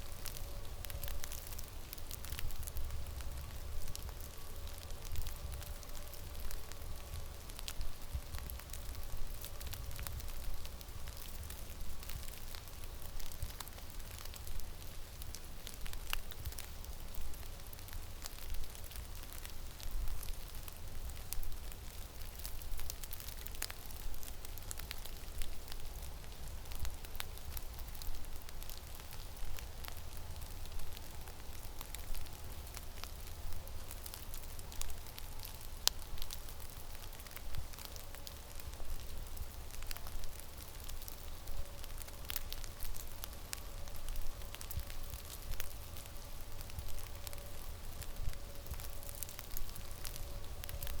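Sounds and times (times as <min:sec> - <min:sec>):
small sharp crackles and ticks: 0:00.0 - 0:51.0.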